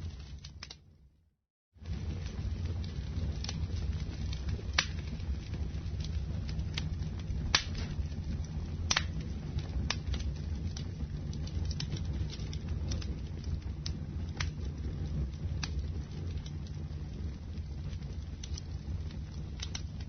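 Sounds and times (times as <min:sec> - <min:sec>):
wood fire crackling: 0:00.0 - 0:01.2, 0:01.8 - 0:20.0.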